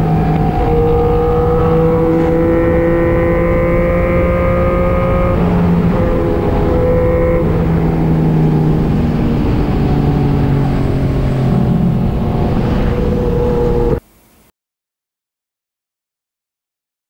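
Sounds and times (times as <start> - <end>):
motorcycle engines running: 0.0 - 14.0
rushing wind: 0.0 - 14.0
road noise: 0.0 - 14.5.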